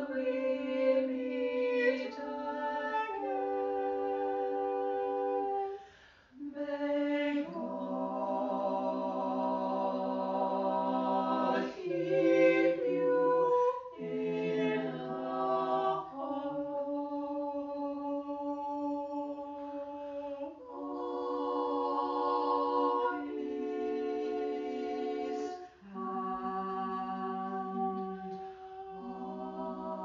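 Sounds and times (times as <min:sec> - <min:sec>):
unaccompanied choir singing: 0:00.0 - 0:30.0.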